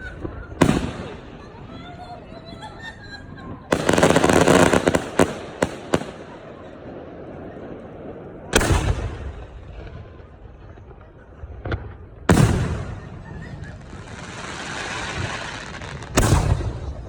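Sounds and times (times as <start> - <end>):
high hiss of fireworks: 0.0 - 17.0.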